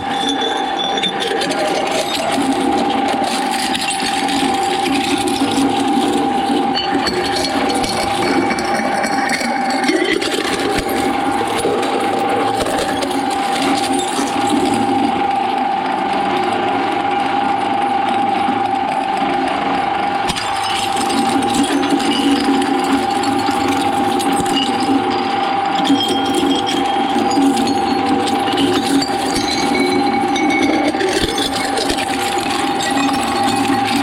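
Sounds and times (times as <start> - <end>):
shredder motor whine: 0.0 - 34.0.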